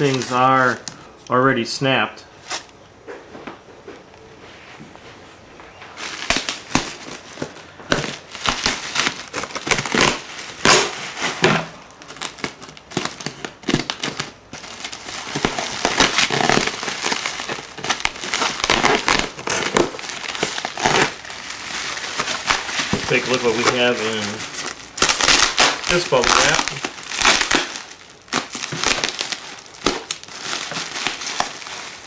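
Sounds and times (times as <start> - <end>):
bubble wrap crinkling: 0.0 - 1.1, 5.9 - 32.0.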